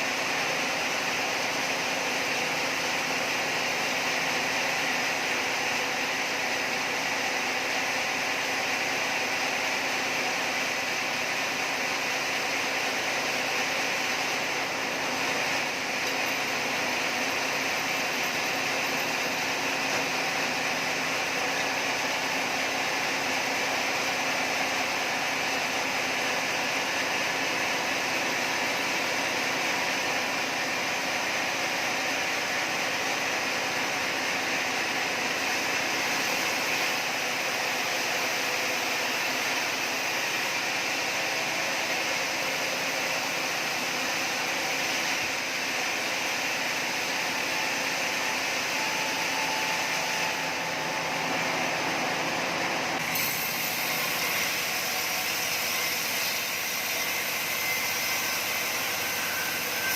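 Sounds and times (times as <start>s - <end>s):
sawmill saw cutting timber: 0.0s - 59.9s.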